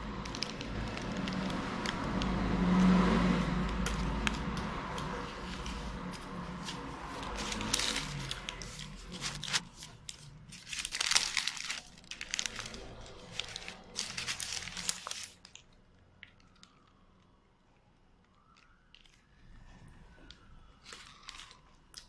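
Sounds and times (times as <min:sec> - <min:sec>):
paper wrapper crinkling: 0:00.0 - 0:16.9, 0:20.8 - 0:22.0.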